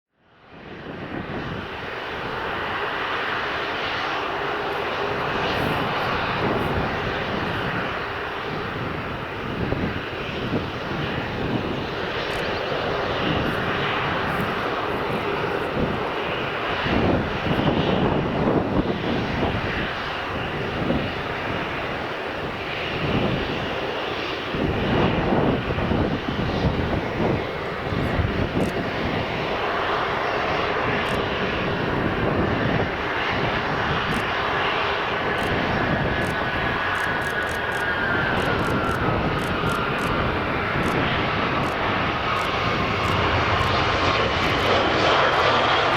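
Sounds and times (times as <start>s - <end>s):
jet airliner engines running: 0.2s - 45.9s
wind buffeting microphone: 0.5s - 45.9s.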